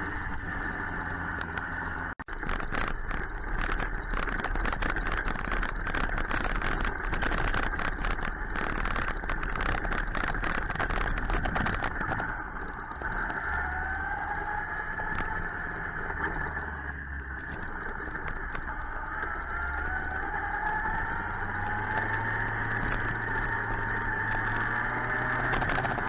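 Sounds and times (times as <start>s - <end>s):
dense crackling: 0.0s - 26.0s
motorcycle engine: 0.0s - 26.0s
wind noise on microphone: 2.3s - 26.0s.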